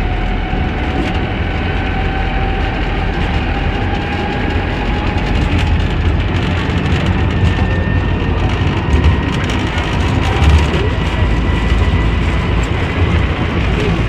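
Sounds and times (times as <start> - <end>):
tram rolling and rumbling: 0.0 - 14.0.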